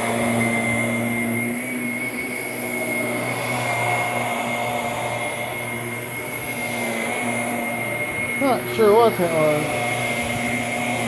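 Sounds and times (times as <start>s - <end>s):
upright vacuum running: 0.0s - 11.0s.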